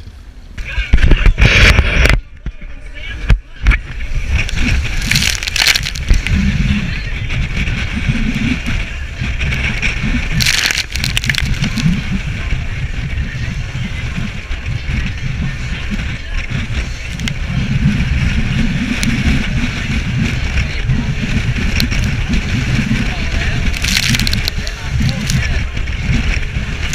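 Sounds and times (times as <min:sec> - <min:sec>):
wind and water roar: 0:00.0 - 0:26.9.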